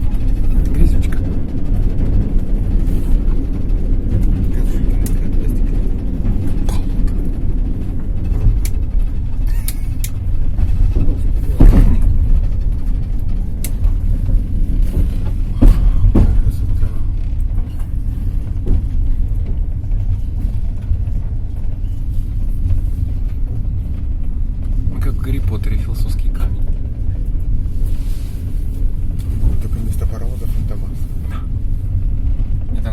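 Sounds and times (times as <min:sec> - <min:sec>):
train wheels rumbling on rails: 0:00.0 - 0:32.9
wheels clacking and knocking: 0:00.0 - 0:32.9.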